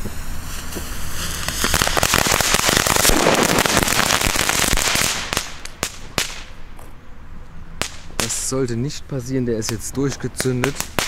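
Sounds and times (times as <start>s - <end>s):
firework crackling: 0.0s - 6.8s, 7.8s - 8.8s, 9.6s - 11.0s.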